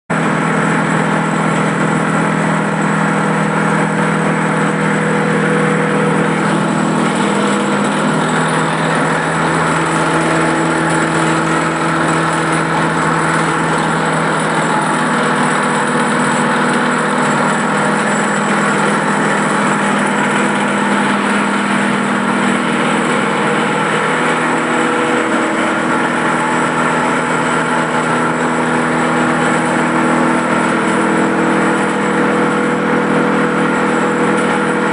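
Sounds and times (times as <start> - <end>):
pulverizer machine running: 0.1 - 34.9.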